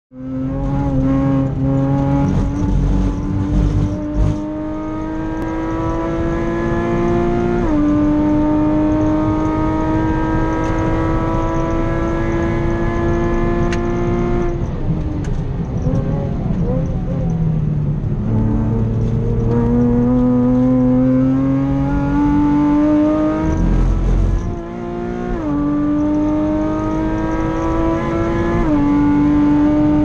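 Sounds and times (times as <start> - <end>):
car engine accelerating hard: 0.2 - 30.0.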